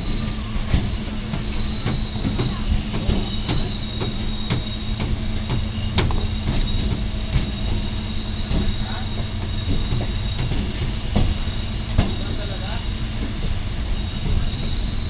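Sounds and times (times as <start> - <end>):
train rumbling drone: 0.0 - 15.0
wheels clicking over rail joints: 0.0 - 15.0.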